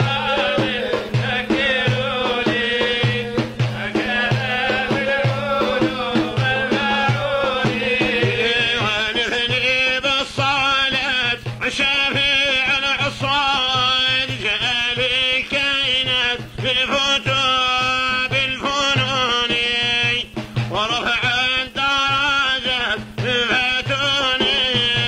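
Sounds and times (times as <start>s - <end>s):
man singing solo: 0.0s - 25.0s.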